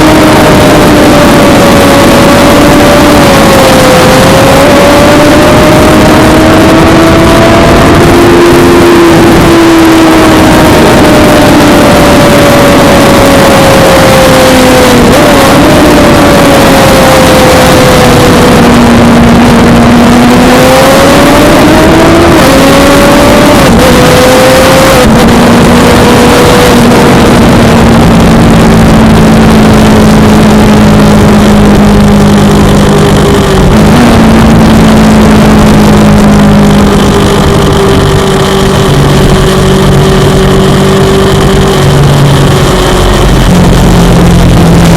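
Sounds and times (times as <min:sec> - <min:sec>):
motorcycle engine revving: 0:00.0 - 0:44.9
rushing wind noise: 0:00.0 - 0:44.9.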